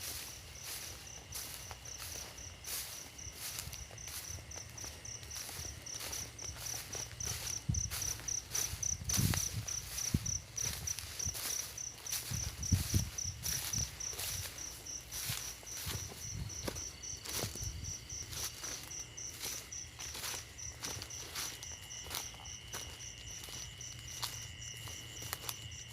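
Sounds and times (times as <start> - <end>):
insect chirping trill: 0.0 - 25.9.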